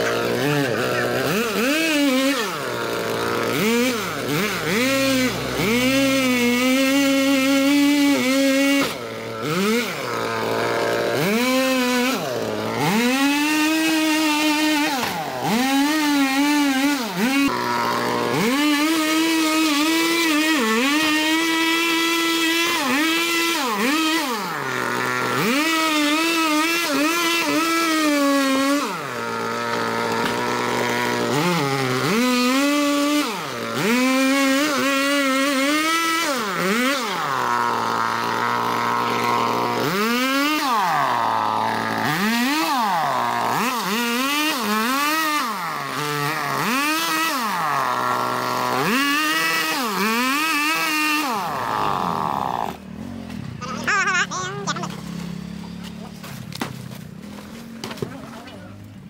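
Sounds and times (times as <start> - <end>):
small petrol engine revving: 0.0 - 59.0.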